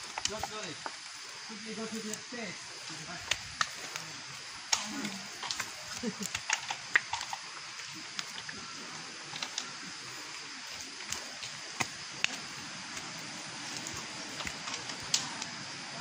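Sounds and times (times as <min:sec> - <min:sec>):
footsteps on dirt trail: 0:00.0 - 0:15.5
background hiss: 0:00.0 - 0:16.0.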